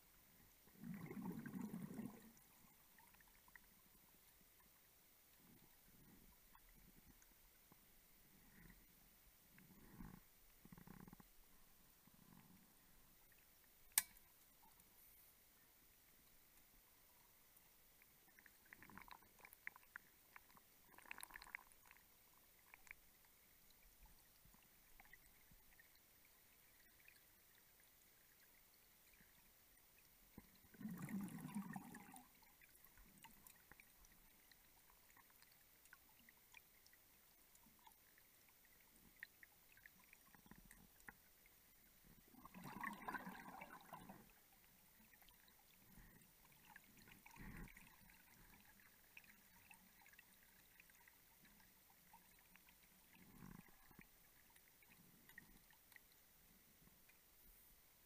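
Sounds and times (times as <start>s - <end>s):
underwater bubbles gurgling: 0.3s - 8.9s, 18.0s - 56.2s.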